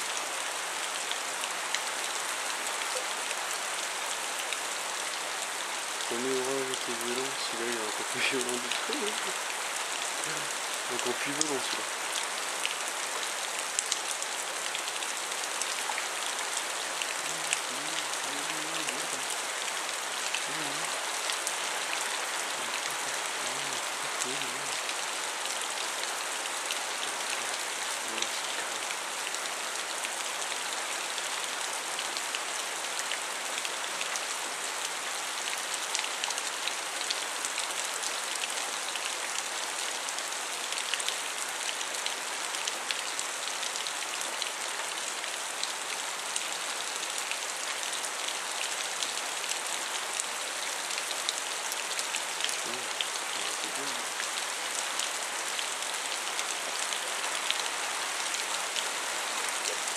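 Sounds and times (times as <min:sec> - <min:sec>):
heavy rain falling: 0:00.0 - 0:59.9
raindrops ticking close by: 0:00.6 - 0:45.8, 0:46.8 - 0:58.9.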